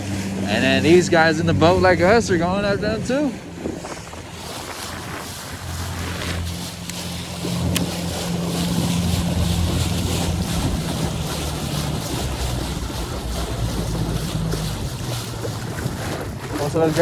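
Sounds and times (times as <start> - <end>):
outboard motor droning: 0.0 - 17.0
wind buffeting microphone: 0.0 - 17.0.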